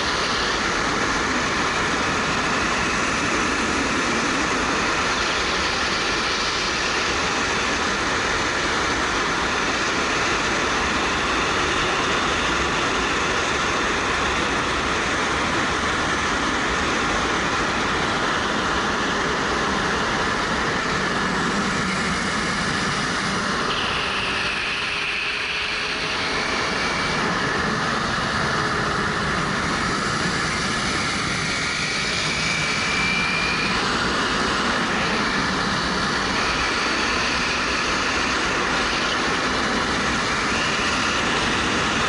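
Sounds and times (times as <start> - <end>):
wind rushing on camera: 0.0 - 42.0.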